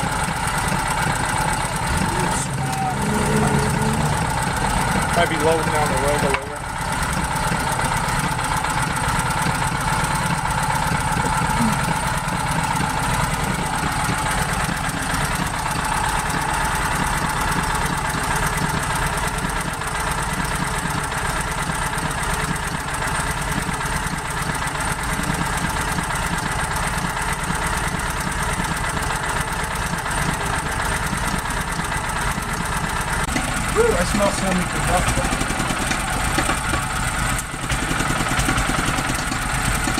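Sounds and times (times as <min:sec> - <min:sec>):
generator engine running: 0:00.0 - 0:39.9.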